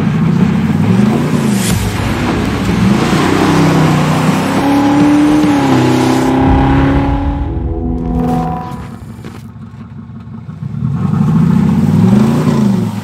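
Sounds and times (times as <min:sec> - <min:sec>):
car exhaust revving: 0:00.2 - 0:12.4.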